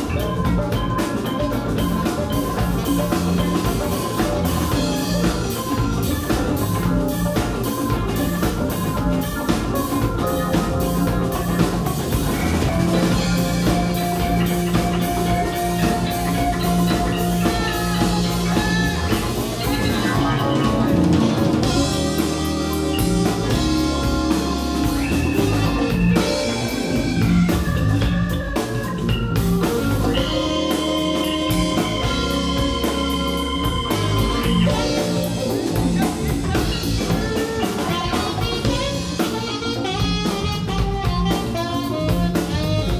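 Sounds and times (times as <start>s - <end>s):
alto saxophone lead: 0.0s - 42.9s
bass guitar: 0.0s - 42.9s
drum kit steady beat: 0.0s - 42.9s
electric guitar: 0.0s - 42.9s
keyboards: 0.0s - 42.9s.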